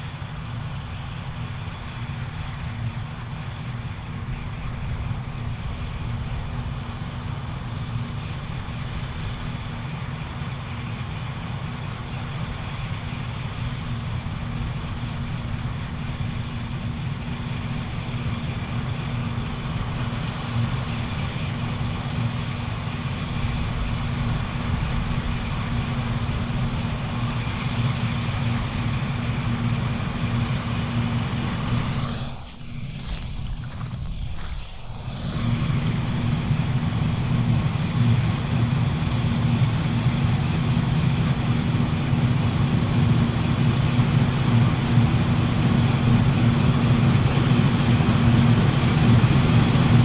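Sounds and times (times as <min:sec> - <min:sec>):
combine harvester engine drone: 0:00.0 - 0:50.0.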